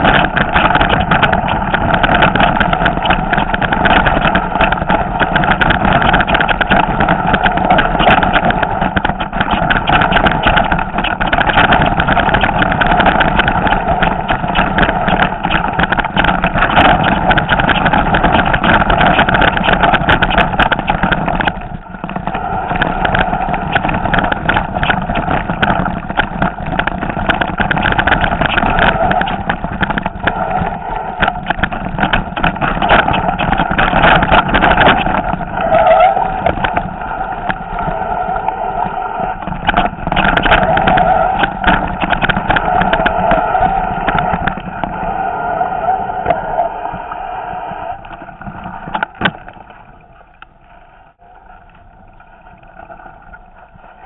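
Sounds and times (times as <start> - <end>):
bike rattling over rocks: 0.0 - 45.2, 48.0 - 54.0.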